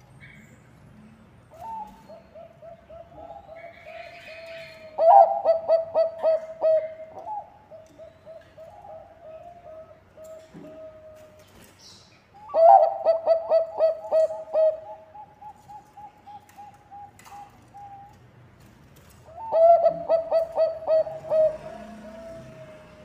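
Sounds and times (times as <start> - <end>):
dove cooing song: 1.5 - 11.7, 12.3 - 18.2, 19.2 - 23.0.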